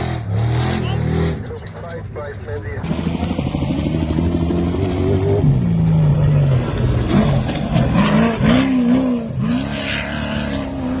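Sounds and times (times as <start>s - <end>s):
truck engine revving hard: 0.0s - 1.6s, 2.8s - 11.0s.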